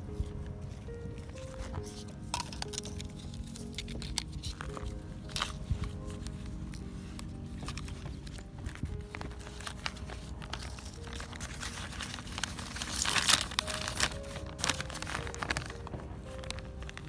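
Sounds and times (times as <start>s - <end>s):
quiet background music: 0.0s - 17.0s
small clicks and crinkling: 0.0s - 17.0s.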